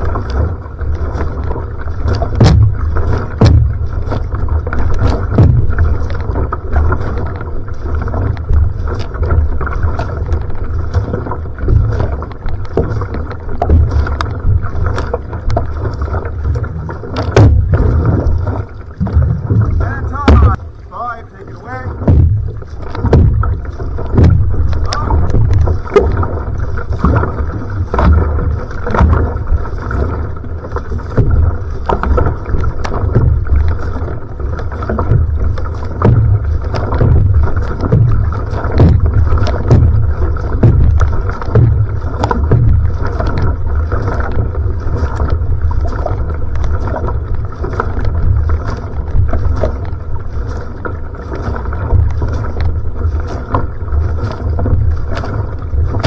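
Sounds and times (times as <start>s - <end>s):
paddle strokes splashing: 0.0s - 56.0s
water rushing along hull: 0.0s - 56.0s.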